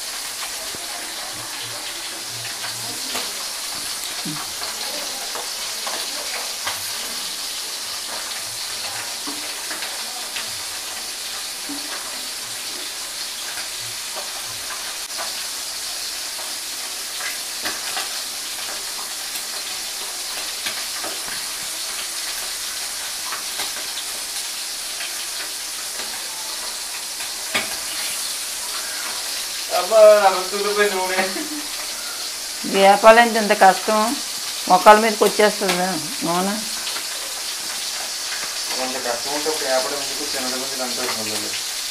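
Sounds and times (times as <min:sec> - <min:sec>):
fish frying in hot oil: 0:00.0 - 0:41.9.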